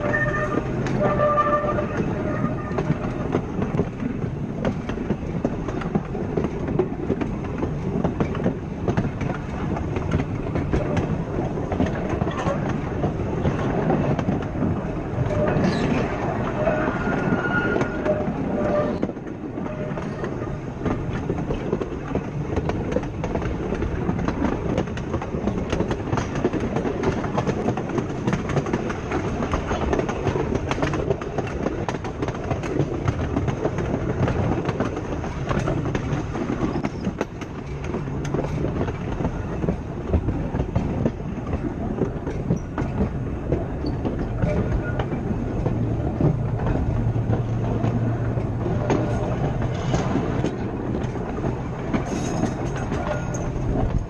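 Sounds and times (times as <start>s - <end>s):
tram wheels rumbling: 0.0s - 54.0s
wheels clicking over rail joints: 0.0s - 54.0s.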